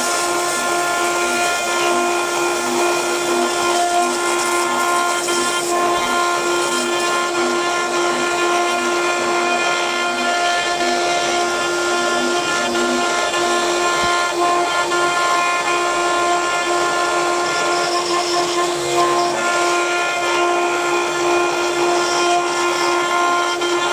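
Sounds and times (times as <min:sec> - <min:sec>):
lathe machine whine: 0:00.0 - 0:23.9.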